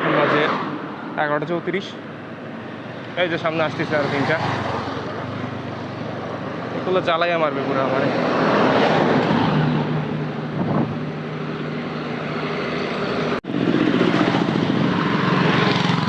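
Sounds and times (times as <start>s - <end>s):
bus and truck engines: 0.0s - 16.0s
tyre and road noise: 0.0s - 16.0s.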